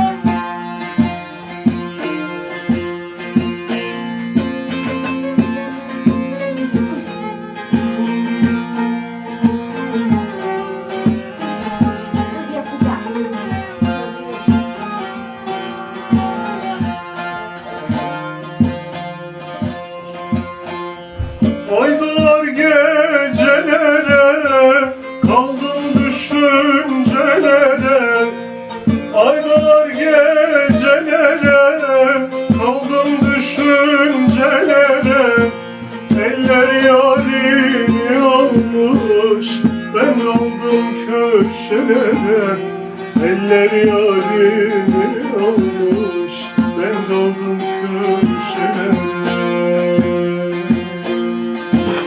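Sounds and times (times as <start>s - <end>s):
man singing folk melody: 0.0s - 52.0s
plucked long-necked lute: 0.0s - 52.0s.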